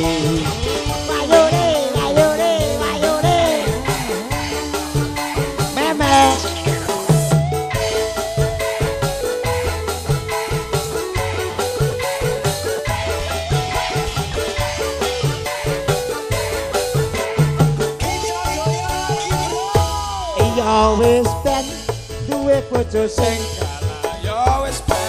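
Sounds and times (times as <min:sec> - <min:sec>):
keyboard melody: 0:00.0 - 0:25.0
repeating bass line: 0:00.0 - 0:25.0
steady percussion beat: 0:00.0 - 0:25.0.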